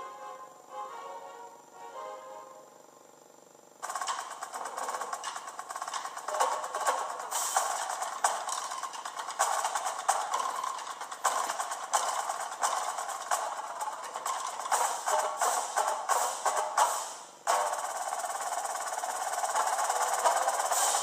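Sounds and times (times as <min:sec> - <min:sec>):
instrumental music with busy percussion: 0:03.8 - 0:21.0.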